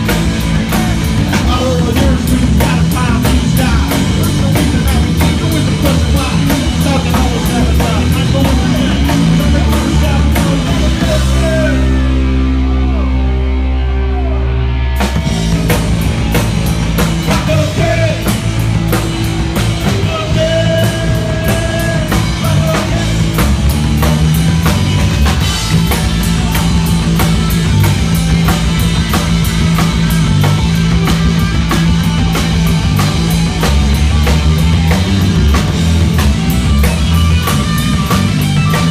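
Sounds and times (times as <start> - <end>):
drum kit with cymbals: 0.0 - 12.5, 14.9 - 38.9
bass guitar: 0.0 - 38.9
electric guitar: 0.0 - 38.9.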